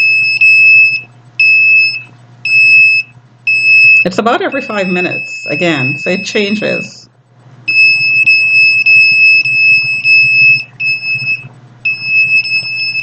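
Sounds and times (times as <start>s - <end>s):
high-pitched electronic alarm tone: 0.0s - 7.1s, 7.7s - 13.0s.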